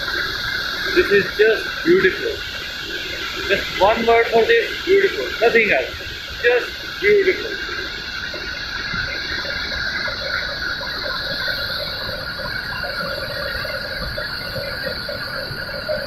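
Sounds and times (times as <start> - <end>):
river rapids roaring: 0.0 - 16.0
waterfall pouring: 0.0 - 16.0.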